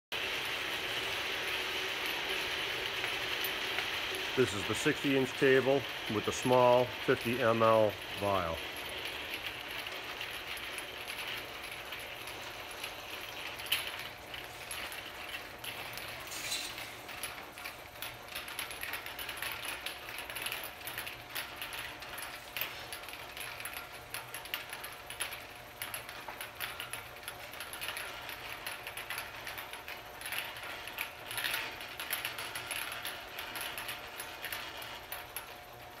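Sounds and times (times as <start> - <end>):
steady machine hum: 0.2 - 36.0.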